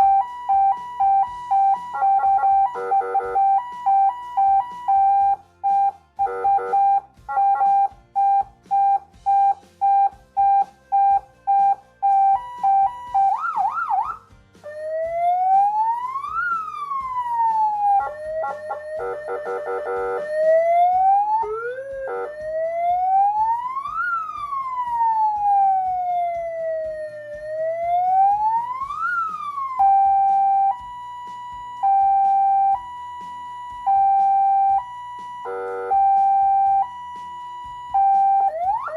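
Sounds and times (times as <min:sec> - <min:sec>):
electronic siren tones: 0:00.0 - 0:38.9.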